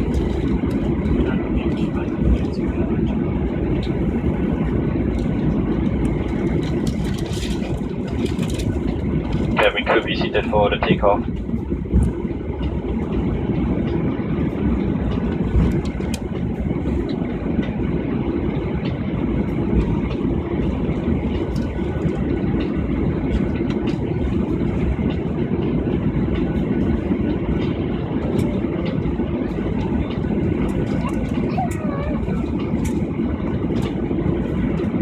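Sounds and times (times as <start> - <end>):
airliner cabin engine rumble: 0.0 - 35.0.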